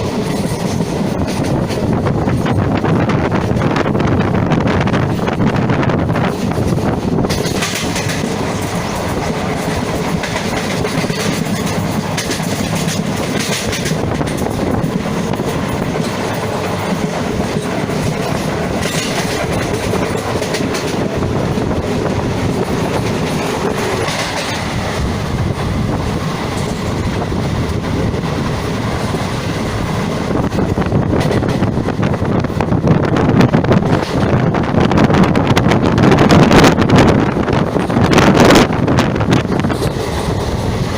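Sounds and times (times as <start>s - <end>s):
train rumble: 0.0s - 40.9s
train wheels clickety-clack: 0.0s - 40.9s.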